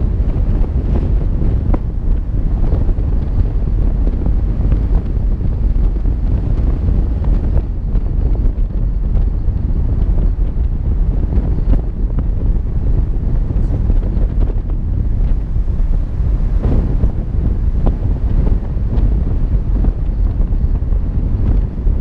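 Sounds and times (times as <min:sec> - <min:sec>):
road noise: 0:00.0 - 0:22.0
wind buffeting microphone: 0:00.0 - 0:22.0.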